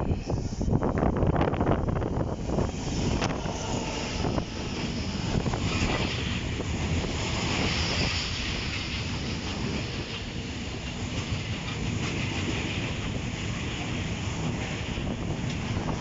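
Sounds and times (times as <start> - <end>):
train rumbling past: 0.0 - 16.0
wind buffeting microphone: 0.0 - 16.0.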